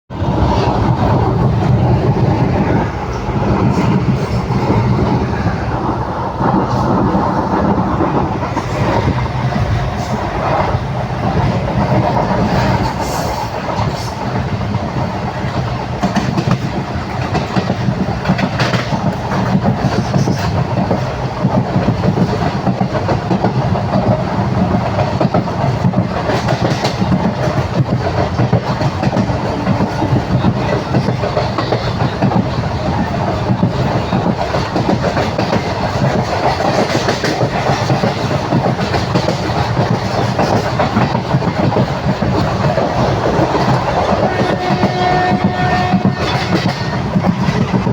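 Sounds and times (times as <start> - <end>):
passenger train rumbling: 0.1 - 47.9
train clattering: 0.1 - 47.9.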